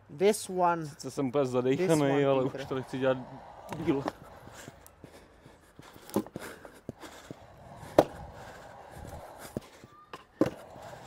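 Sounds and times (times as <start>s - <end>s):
scooter wheels rolling: 1.5s - 11.0s.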